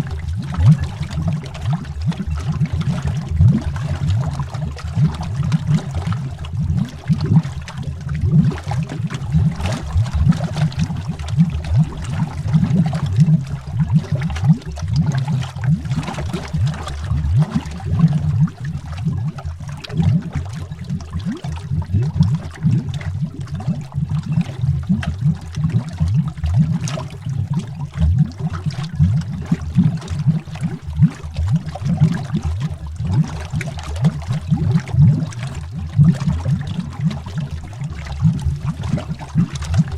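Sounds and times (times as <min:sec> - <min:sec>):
underwater bubbling: 0:00.0 - 0:39.9.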